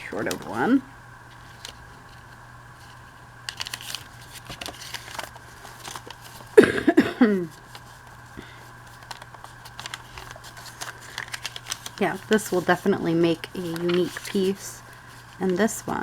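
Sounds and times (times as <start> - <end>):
paper rustling and crinkling: 0.0 - 6.6, 7.4 - 16.0
steady low hum: 0.0 - 16.0.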